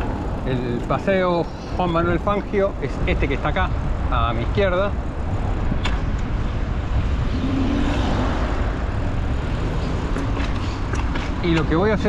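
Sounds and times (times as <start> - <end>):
passing car: 0.0 - 12.0
wind on microphone: 1.4 - 12.0.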